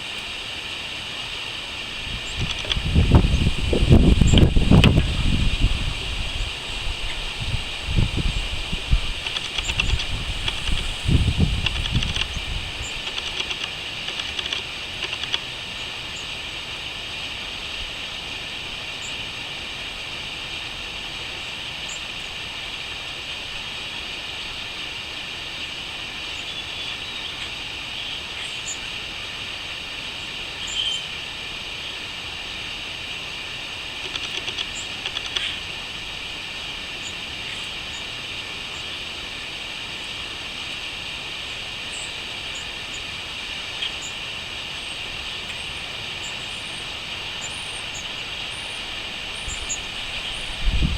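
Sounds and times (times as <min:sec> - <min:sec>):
crickets chirping: 0:00.0 - 0:19.3, 0:19.9 - 0:50.9.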